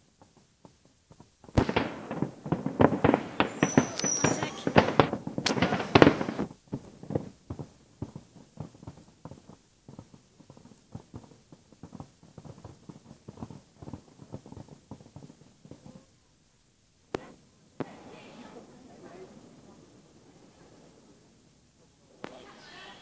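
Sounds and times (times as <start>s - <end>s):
fireworks bangs: 0.0s - 23.0s
fireworks popping and crackling: 0.0s - 23.0s.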